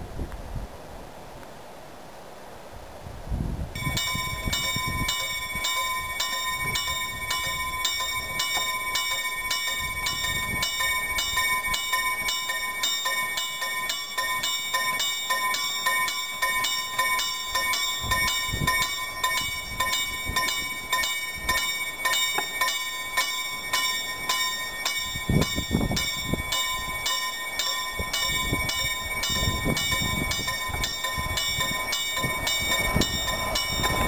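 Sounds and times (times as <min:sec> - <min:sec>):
wind buffeting microphone: 0:02.8 - 0:34.0
level-crossing warning bell ringing: 0:03.8 - 0:34.0.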